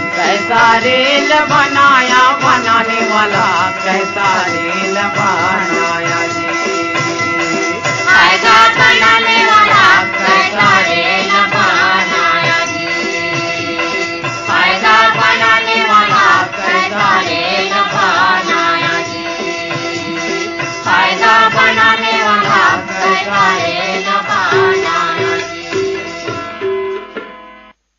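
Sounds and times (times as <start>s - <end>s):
regular drum beat: 0.0s - 27.2s.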